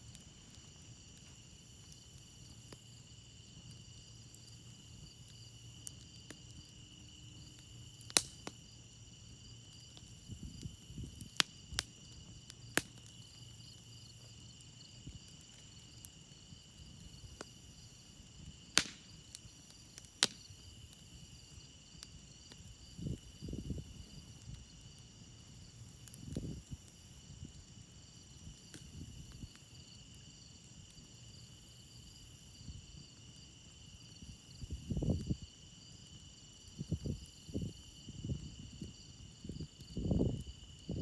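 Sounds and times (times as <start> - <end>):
campfire crackling pops: 0.0 - 33.2
crickets chirring: 0.0 - 41.0.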